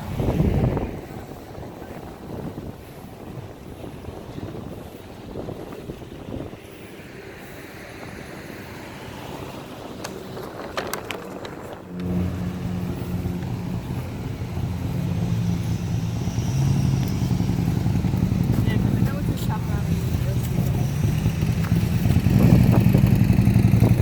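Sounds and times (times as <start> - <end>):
vehicle engine humming: 0.0 - 24.0
wind on microphone: 0.0 - 24.0.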